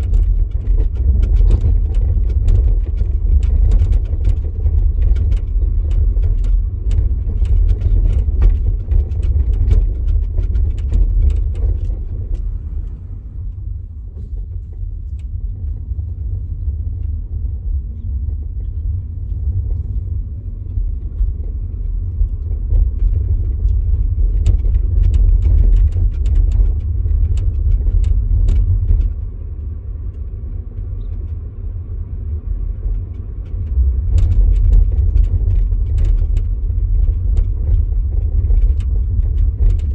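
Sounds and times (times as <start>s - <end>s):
car driving low rumble: 0.0s - 39.9s.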